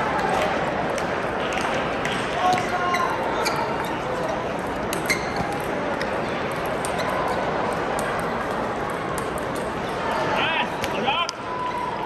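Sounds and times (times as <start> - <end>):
busy hall background noise: 0.0 - 12.0.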